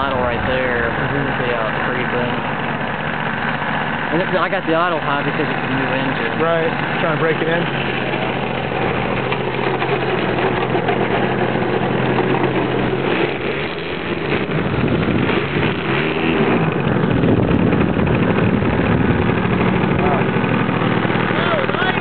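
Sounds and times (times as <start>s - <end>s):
model airplane engine idling: 0.0s - 22.0s.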